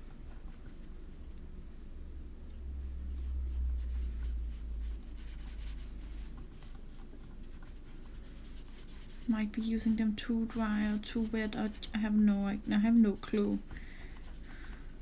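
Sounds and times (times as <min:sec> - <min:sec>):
colouring strokes scratching paper: 0:02.8 - 0:15.0.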